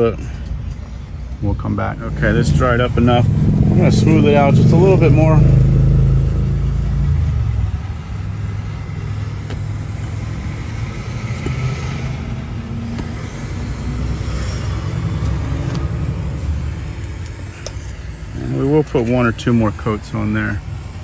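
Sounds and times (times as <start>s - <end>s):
butane torch flame roaring: 1.9s - 21.0s.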